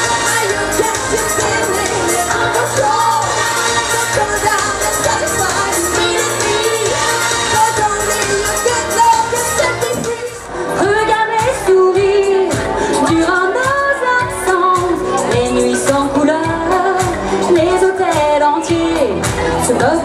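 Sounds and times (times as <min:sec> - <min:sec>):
amplified music with steady beat: 0:00.0 - 0:20.0
person singing pop song live: 0:00.0 - 0:20.0.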